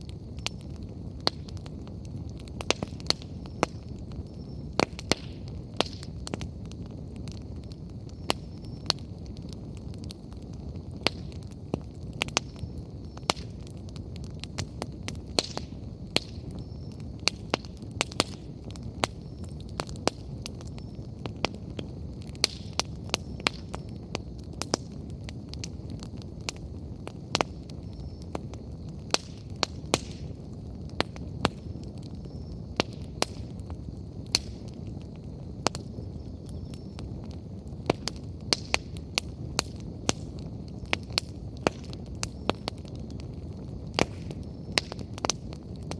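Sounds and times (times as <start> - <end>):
firewood crackling and popping: 0.0 - 45.9
low rumble of bonfire: 0.0 - 45.9.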